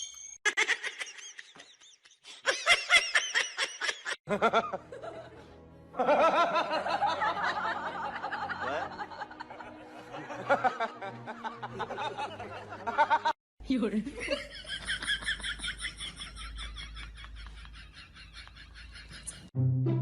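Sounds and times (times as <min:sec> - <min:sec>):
people laughing: 0:00.5 - 0:13.4, 0:14.1 - 0:19.5.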